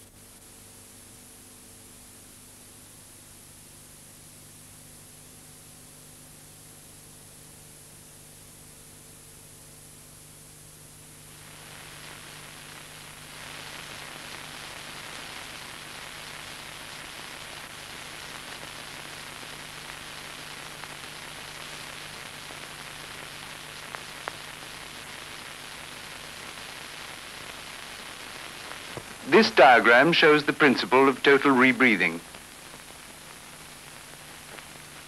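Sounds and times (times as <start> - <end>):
film soundtrack hiss and crackle: 0.0 - 35.0.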